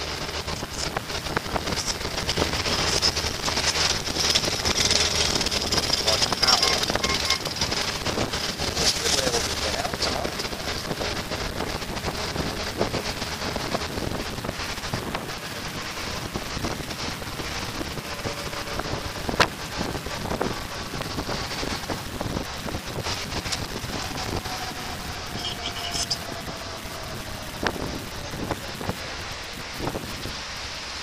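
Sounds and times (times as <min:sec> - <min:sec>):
motorcycle engine and road noise: 0:00.0 - 0:31.0
wind on microphone: 0:00.0 - 0:31.0.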